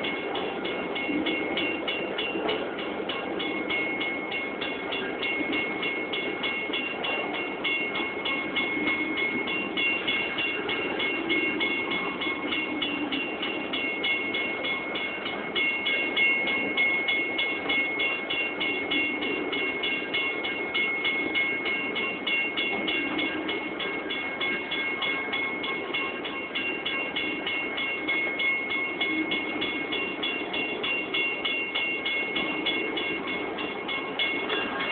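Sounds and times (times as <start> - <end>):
crossing warning bell ringing: 0.0 - 34.9
train cars rumbling past: 0.0 - 34.9.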